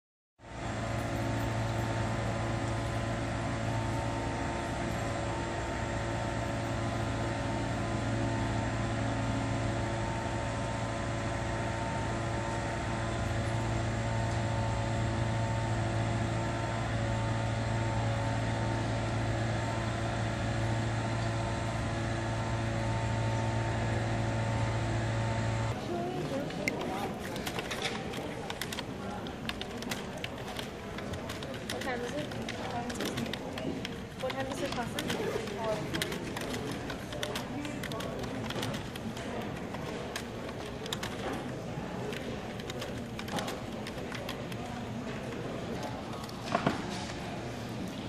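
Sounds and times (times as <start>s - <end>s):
steady mechanical hum: 0.4s - 48.0s.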